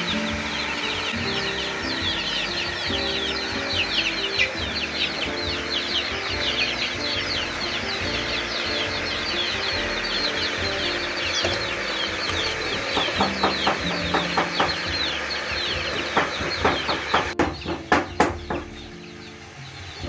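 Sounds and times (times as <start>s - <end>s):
chickens clucking: 0.0s - 20.0s
chicks peeping: 0.0s - 20.0s.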